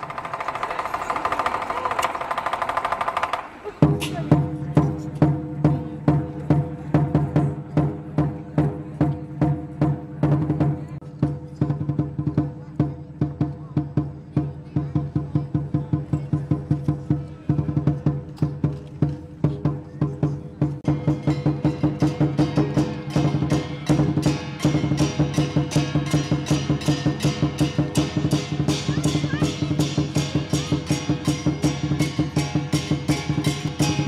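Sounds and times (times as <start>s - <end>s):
drum and cymbal percussion music: 0.0s - 34.0s.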